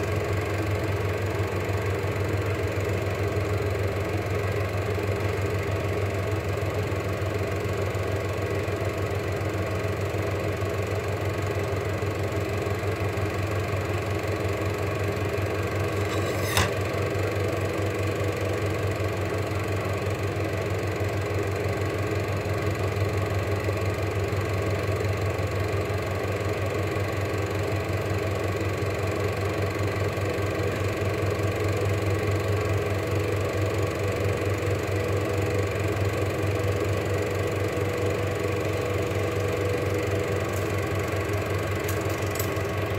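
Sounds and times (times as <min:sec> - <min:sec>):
film projector motor hum: 0:00.0 - 0:42.9.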